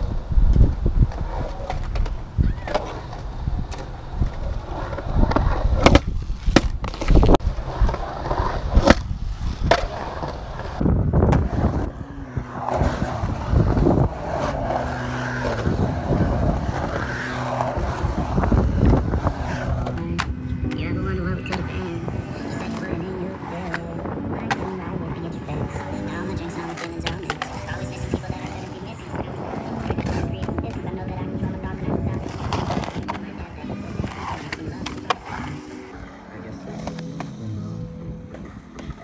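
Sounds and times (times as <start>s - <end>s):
skateboard wheels rolling on concrete: 0.0s - 39.0s.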